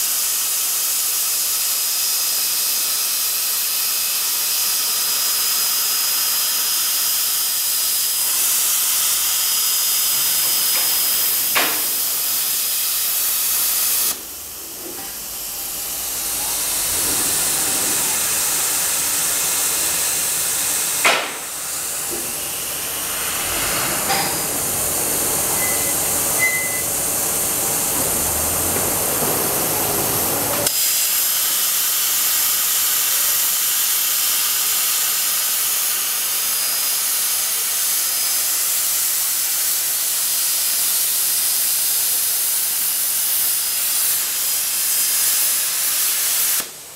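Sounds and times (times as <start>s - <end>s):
plasma torch hissing: 0.0s - 46.9s.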